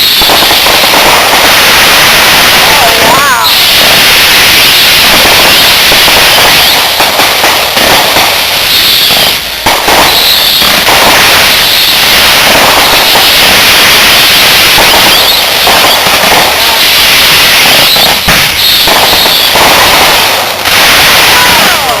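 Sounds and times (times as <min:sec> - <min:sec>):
fireworks crackling and popping: 0:00.0 - 0:22.0
fireworks whistling: 0:00.0 - 0:22.0.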